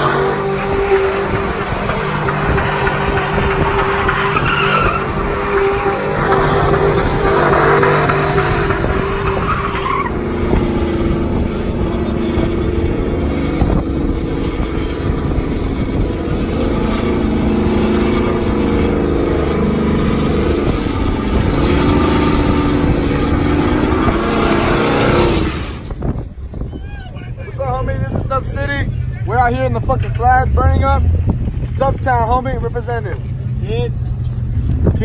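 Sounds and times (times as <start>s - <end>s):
truck engines revving hard: 0.0s - 26.7s, 27.3s - 35.0s
tyres squealing on asphalt: 0.0s - 31.0s.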